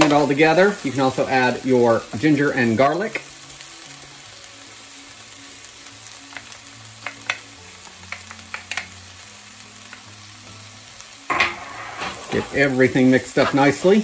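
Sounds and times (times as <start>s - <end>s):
meat and vegetables sizzling in pan: 0.0s - 14.0s.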